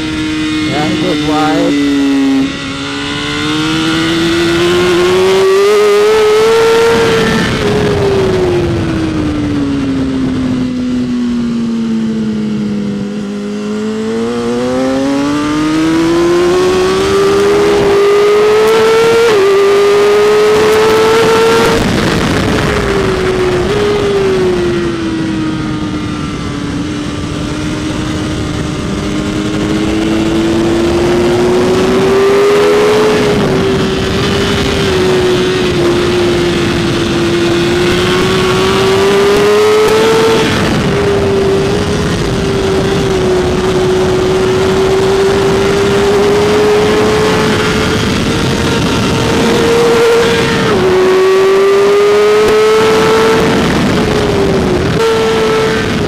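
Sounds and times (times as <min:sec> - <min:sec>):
motorcycle engine revving: 0:00.0 - 0:56.0
wind rush over microphone: 0:00.0 - 0:56.0.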